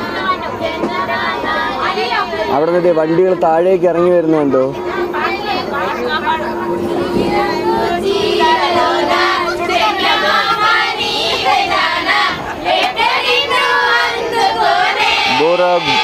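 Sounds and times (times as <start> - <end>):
children singing together: 0.0 - 16.0.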